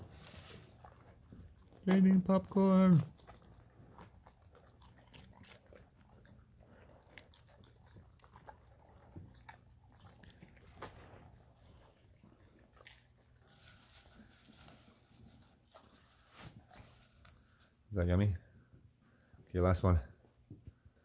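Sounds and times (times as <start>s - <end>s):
dogs crunching popcorn: 0.0s - 17.8s.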